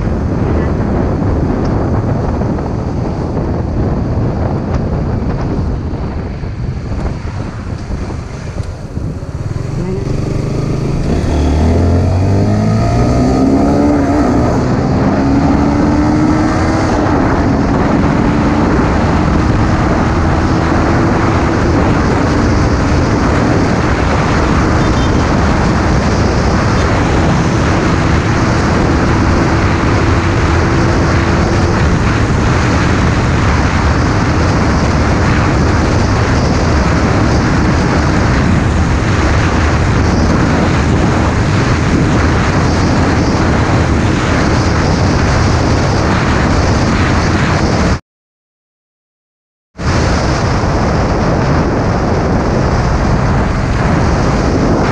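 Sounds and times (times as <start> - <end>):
motorcycle engine at full throttle: 0.0 - 48.0, 49.8 - 54.9
wind rush: 0.0 - 48.0, 49.8 - 54.9.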